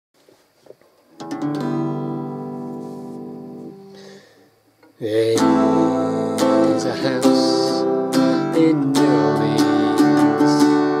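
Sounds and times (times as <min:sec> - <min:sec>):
acoustic guitar chord strummed: 0:01.2 - 0:11.0.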